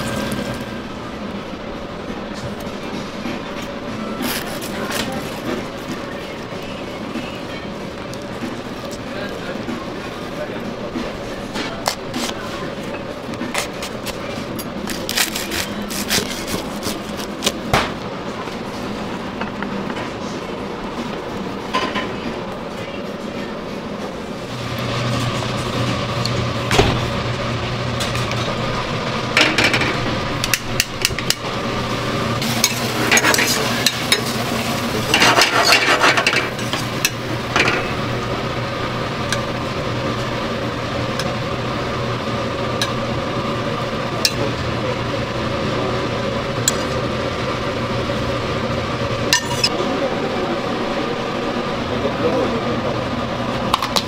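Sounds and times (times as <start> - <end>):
low kitchen hum: 0.0 - 54.0.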